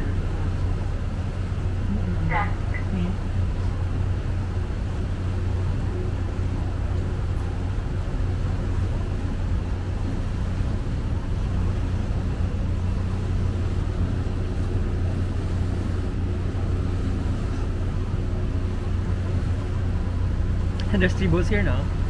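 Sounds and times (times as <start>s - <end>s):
ferry engine low hum: 0.0s - 22.0s.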